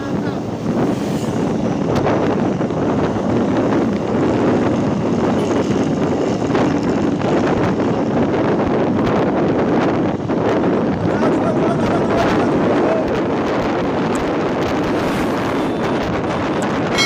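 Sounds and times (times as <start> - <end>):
vehicle engine and road noise: 0.0 - 17.0
wind rumble on microphone: 0.0 - 17.0.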